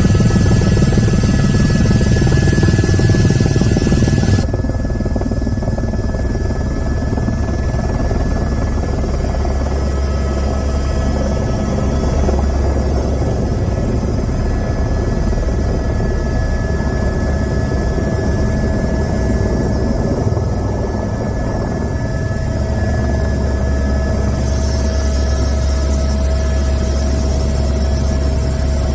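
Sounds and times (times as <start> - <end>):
loud mechanical drone: 0.0 - 5.2, 5.8 - 28.9
constant whining tones: 0.0 - 28.9.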